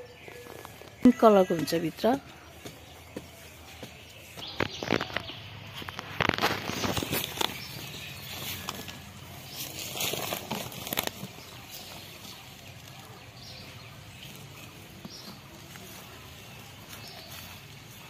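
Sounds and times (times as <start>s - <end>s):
hands scraping soil: 3.3s - 18.0s.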